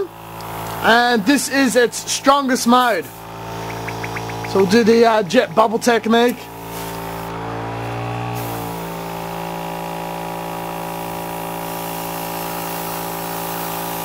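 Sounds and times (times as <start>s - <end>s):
compressor electric hum: 0.0s - 14.0s.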